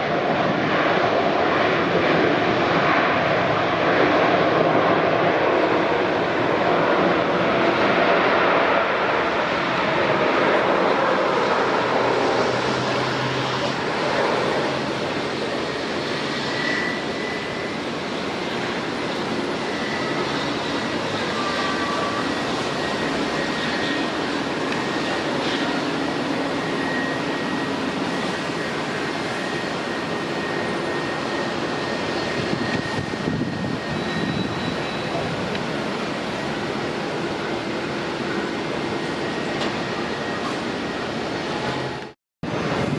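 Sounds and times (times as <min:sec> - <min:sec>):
airliner engines running: 0:00.0 - 0:42.9
thin high engine whine: 0:03.0 - 0:42.9.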